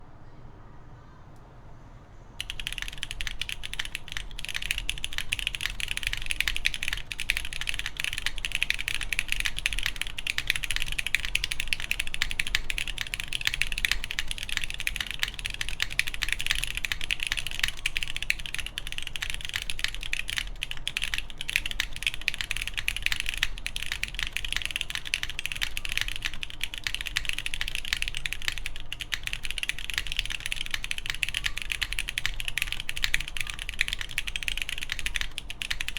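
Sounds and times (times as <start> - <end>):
fast typing on mechanical keyboard: 2.4 - 35.9.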